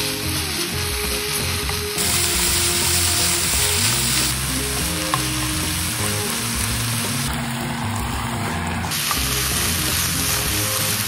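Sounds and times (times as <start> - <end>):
meat sizzling in a frying pan: 0.0 - 8.0, 8.9 - 11.0
background music: 0.0 - 11.0.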